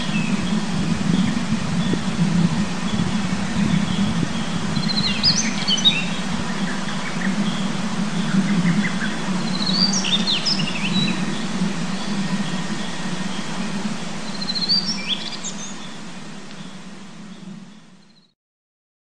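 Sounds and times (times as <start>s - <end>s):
low background rush: 0.0s - 18.1s
bird singing scratchy chirps: 0.0s - 18.3s.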